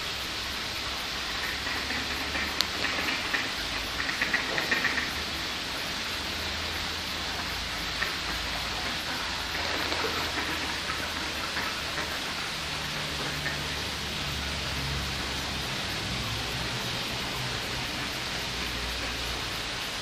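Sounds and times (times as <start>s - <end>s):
water rushing over weir: 0.0s - 20.0s.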